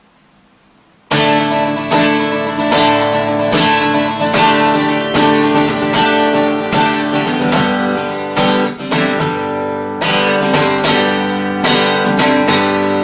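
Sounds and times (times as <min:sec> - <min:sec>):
acoustic guitar strumming chords: 0:01.1 - 0:13.0.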